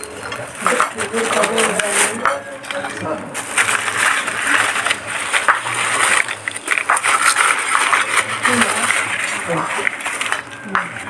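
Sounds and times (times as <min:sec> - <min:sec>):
many people talking: 0:00.0 - 0:11.0.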